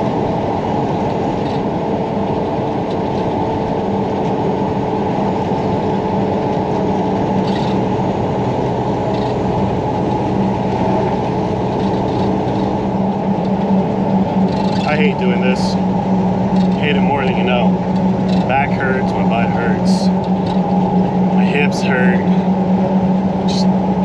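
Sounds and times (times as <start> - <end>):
diesel engine droning: 0.0 - 24.0
truck rumbling on rough road: 0.0 - 24.0.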